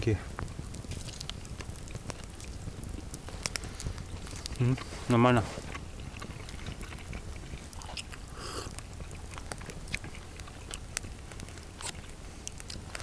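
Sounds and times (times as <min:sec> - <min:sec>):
person chewing sausage: 0:00.8 - 0:13.0.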